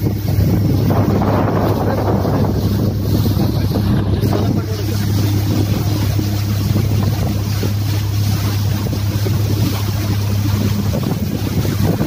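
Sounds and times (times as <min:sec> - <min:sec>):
outboard motor droning: 0:00.0 - 0:12.0
water rushing past hull: 0:00.0 - 0:12.0
wind on microphone: 0:00.0 - 0:12.0.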